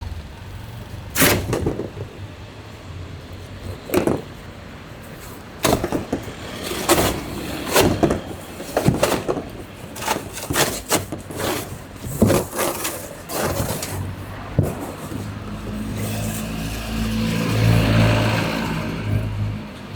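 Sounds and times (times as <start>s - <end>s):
knocks clanks and scraping: 1.2s - 2.5s, 3.3s - 18.0s.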